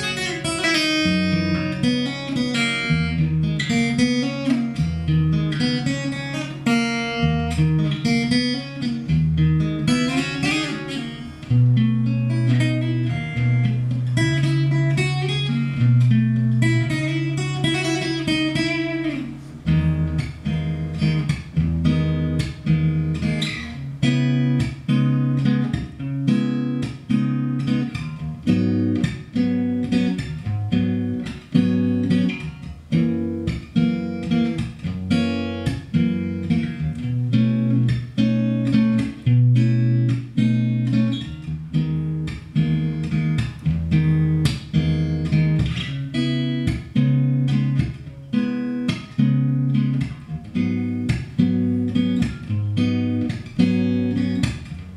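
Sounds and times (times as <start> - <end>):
fingerpicked acoustic guitar: 0.0 - 54.9.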